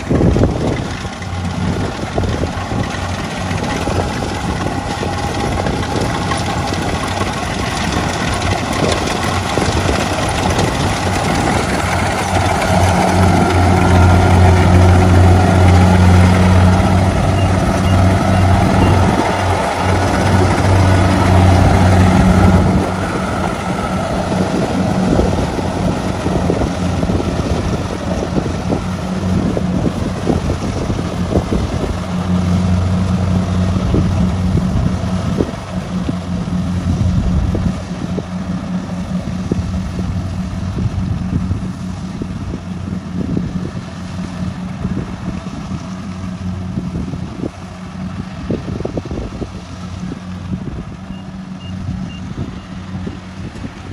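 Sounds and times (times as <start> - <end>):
combine harvester engine humming: 0.0 - 53.9.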